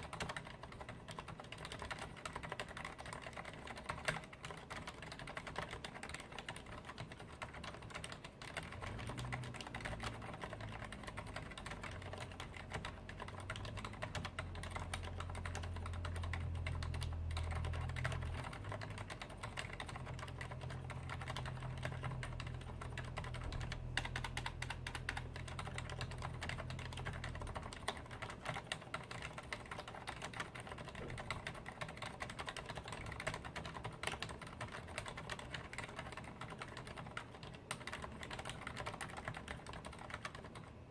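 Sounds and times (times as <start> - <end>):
damped mechanical keyboard typing: 0.0 - 40.9
low steady hum: 0.0 - 40.9.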